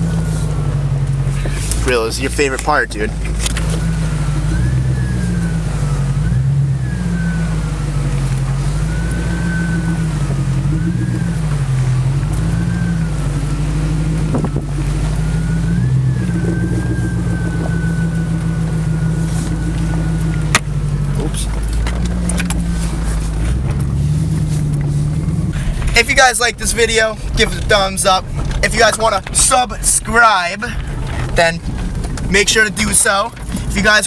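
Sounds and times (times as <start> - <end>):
engine revving under load: 0.0 - 33.9.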